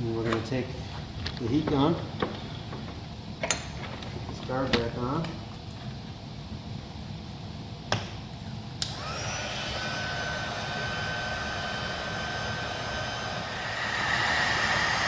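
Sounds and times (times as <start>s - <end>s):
heat gun fan whine: 0.0s - 15.0s.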